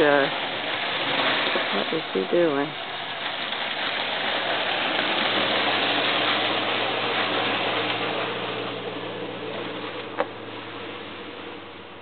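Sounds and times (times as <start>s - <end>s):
truck engine under throttle: 0.0s - 12.0s.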